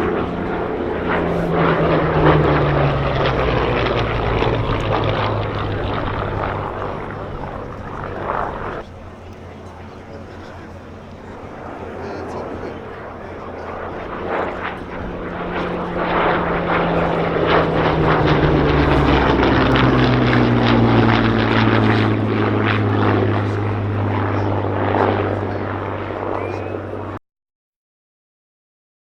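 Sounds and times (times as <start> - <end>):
propeller fighter plane flying past: 0.0 - 27.2.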